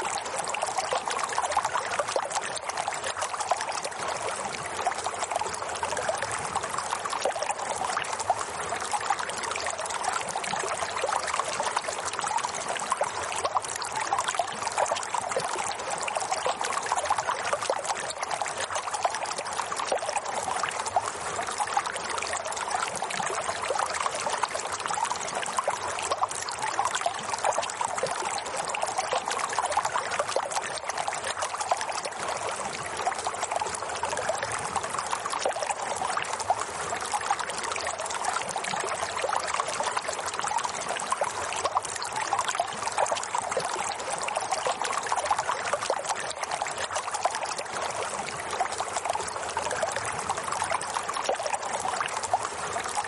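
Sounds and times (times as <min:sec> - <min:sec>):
running water trickling: 0:00.0 - 0:53.0.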